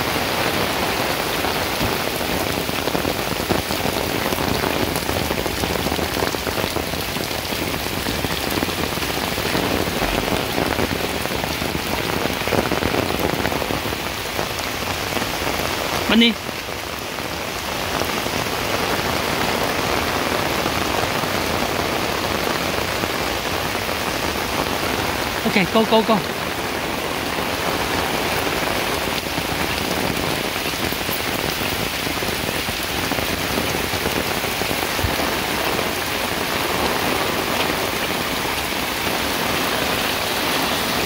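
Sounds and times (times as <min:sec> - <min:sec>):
heavy rain on foliage and concrete: 0:00.0 - 0:41.0.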